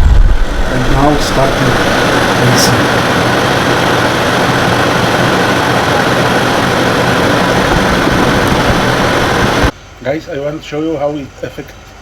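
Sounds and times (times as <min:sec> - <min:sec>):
air conditioner running: 0:00.0 - 0:12.0.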